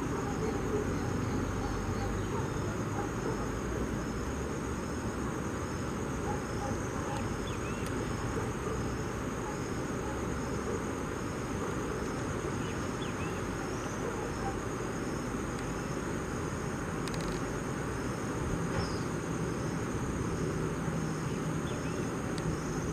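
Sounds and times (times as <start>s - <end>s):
high insect trill: 0.0s - 22.9s.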